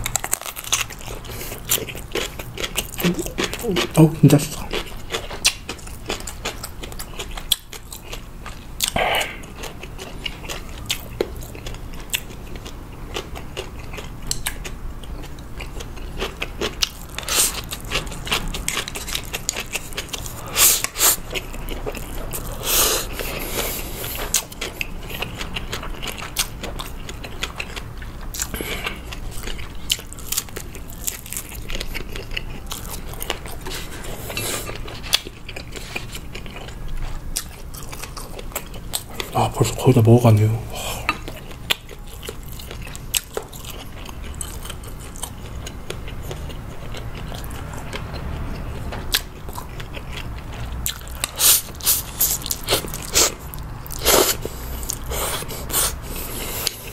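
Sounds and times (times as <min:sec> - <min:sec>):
chewing and biting food: 0:00.0 - 0:56.9.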